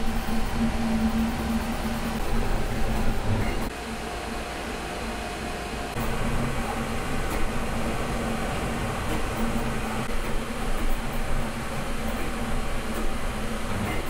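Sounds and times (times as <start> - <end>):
cooling fans whirring: 0.0 - 14.0
stepper motors humming: 0.0 - 14.0.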